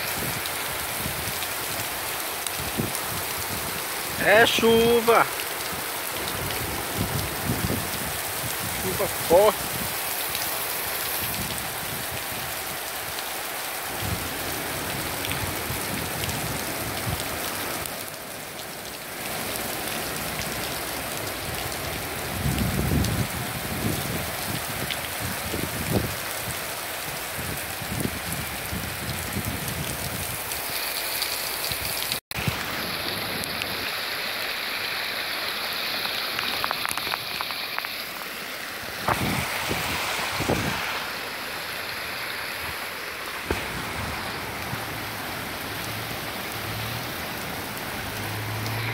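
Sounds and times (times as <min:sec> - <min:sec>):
heavy rain: 0:00.0 - 0:48.9.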